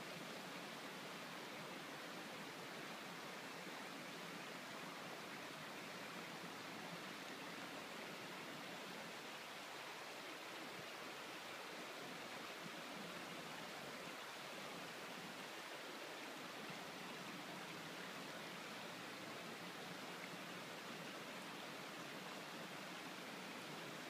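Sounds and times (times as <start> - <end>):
stream flowing over rocks: 0.0 - 24.0.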